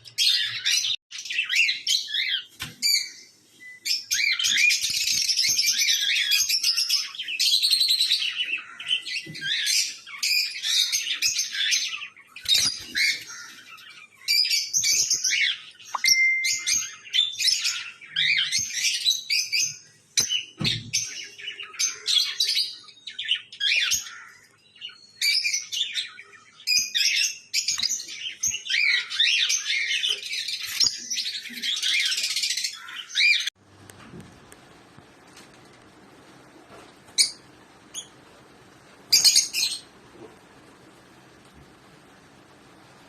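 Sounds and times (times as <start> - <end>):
lovebirds chirping: 0.0 - 33.6, 35.8 - 43.0.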